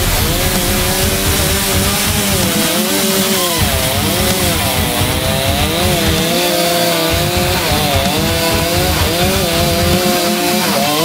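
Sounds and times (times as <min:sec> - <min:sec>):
chainsaw cutting wood: 0:00.0 - 0:11.0.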